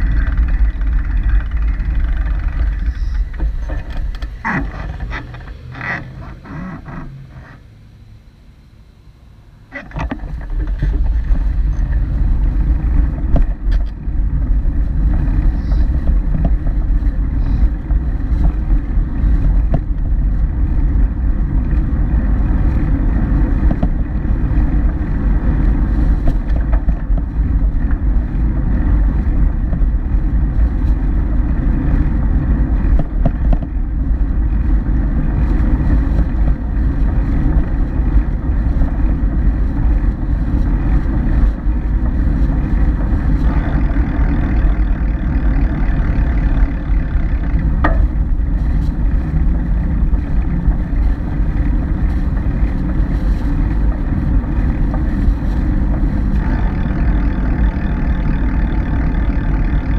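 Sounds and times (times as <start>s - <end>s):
wind buffeting microphone: 0.0s - 7.2s, 10.0s - 59.9s
road noise: 0.0s - 59.9s.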